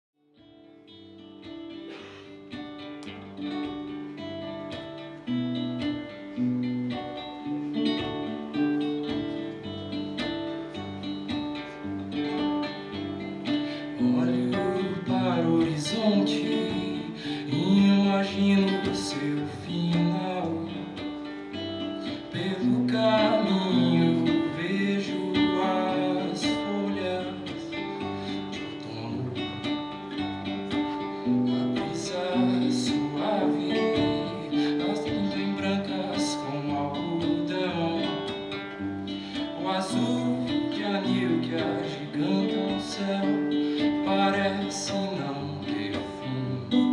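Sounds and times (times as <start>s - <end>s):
acoustic guitar playing: 0.3s - 46.9s
person singing: 1.7s - 46.9s.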